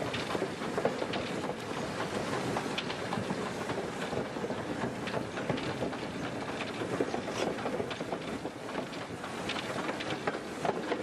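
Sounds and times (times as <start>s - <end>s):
clanks and knocks from running gear: 0.0s - 11.0s
train wheels rumbling on rail: 0.0s - 11.0s.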